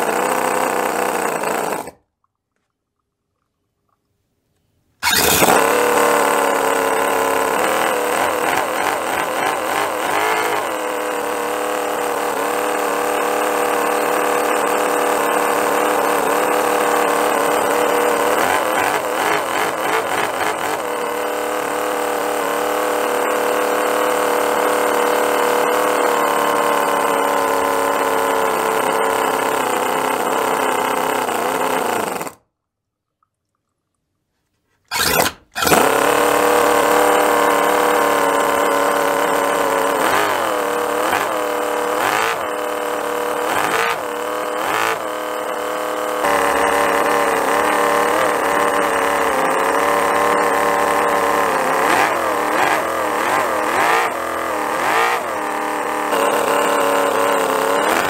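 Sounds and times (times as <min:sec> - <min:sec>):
model engine high-pitched idle: 0:00.0 - 0:01.9, 0:05.0 - 0:32.4, 0:35.5 - 0:58.0.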